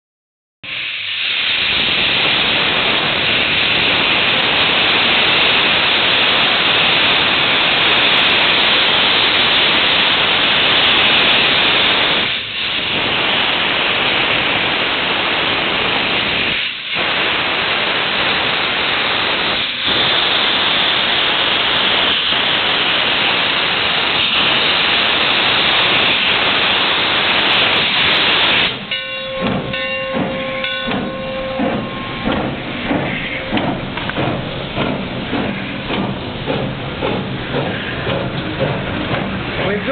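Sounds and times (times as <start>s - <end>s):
locomotive steam hissing: 0.6s - 39.9s.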